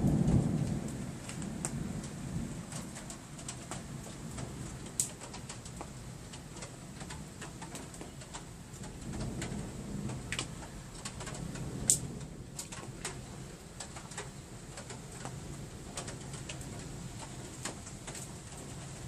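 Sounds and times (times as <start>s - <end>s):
rain dripping: 0.0s - 19.0s.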